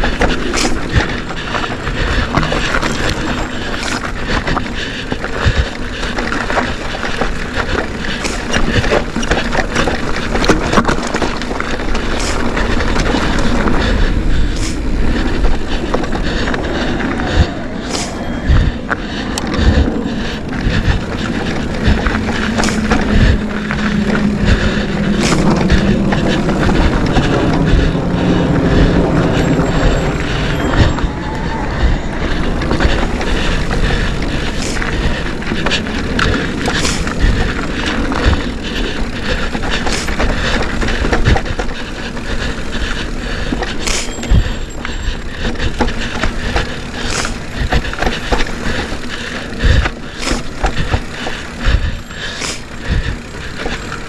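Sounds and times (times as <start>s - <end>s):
bike knocking and rattling: 0.0s - 54.0s
mountain bike rumbling on dirt: 0.0s - 54.0s
low steady hum: 5.4s - 54.0s.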